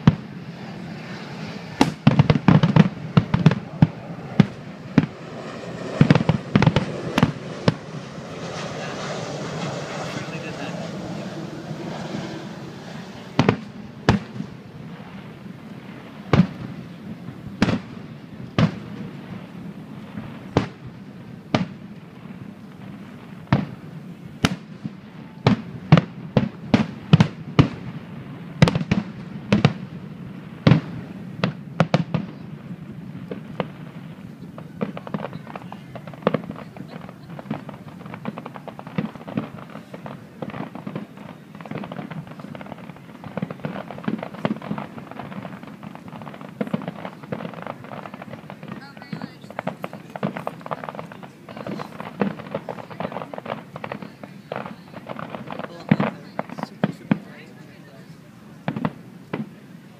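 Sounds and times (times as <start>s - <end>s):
dense crackling pops: 0.0s - 59.6s
fireworks bursting: 0.0s - 59.9s.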